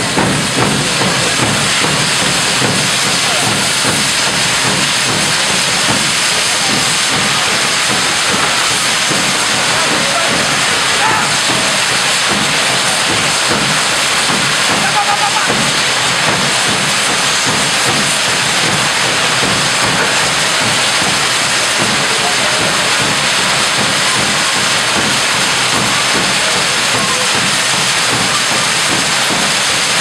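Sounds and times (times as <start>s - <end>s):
firework fountains hissing: 0.0s - 30.0s.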